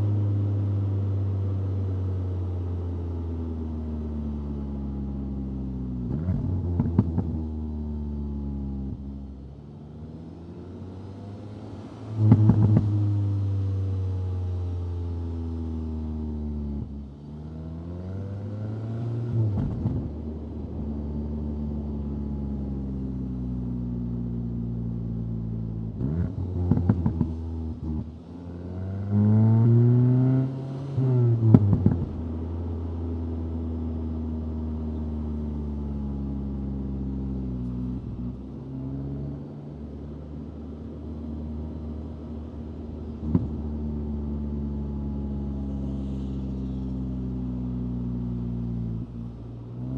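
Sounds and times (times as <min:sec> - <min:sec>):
car engine accelerating and cruising: 0:00.0 - 0:49.9.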